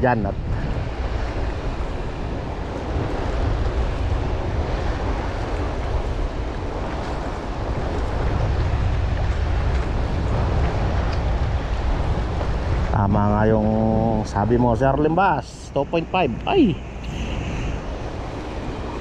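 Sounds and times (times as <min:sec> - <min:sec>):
choppy sea water against concrete: 0:00.0 - 0:19.0
wind buffeting the microphone: 0:00.0 - 0:19.0.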